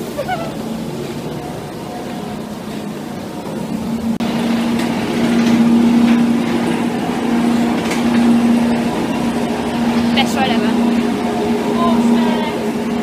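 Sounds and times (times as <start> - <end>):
rollercoaster rumbling on track: 0.0 - 13.0.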